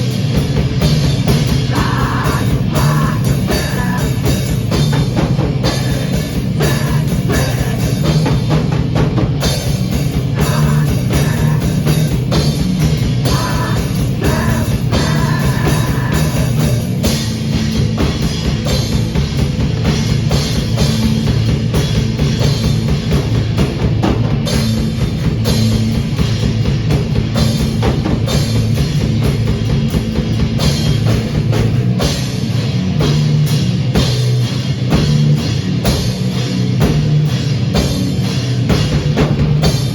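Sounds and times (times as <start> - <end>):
distorted electric guitar: 0.0 - 39.9
drum kit pounding: 0.0 - 39.9.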